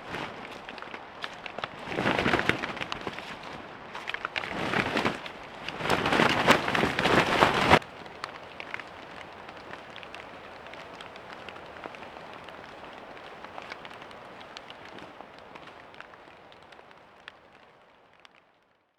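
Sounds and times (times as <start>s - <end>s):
rain pattering: 0.0s - 18.9s.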